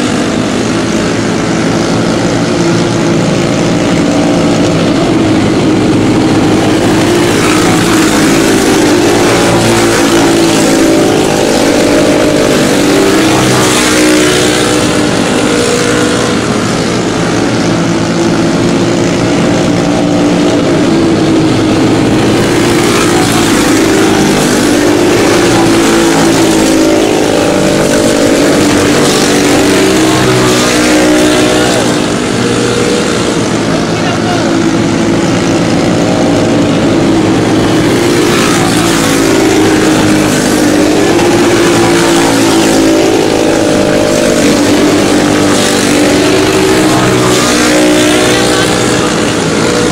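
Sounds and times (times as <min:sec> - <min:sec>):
racing kart engines at high revs: 0:00.0 - 0:49.9.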